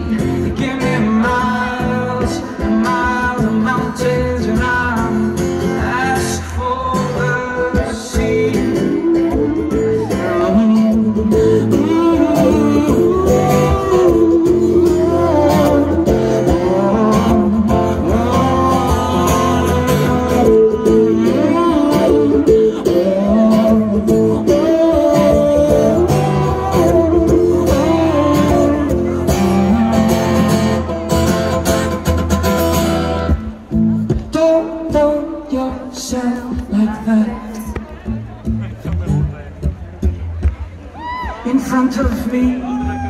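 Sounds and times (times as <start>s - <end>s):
man singing: 0.0s - 32.0s, 34.0s - 38.4s, 41.4s - 43.0s
acoustic guitar: 0.0s - 43.0s.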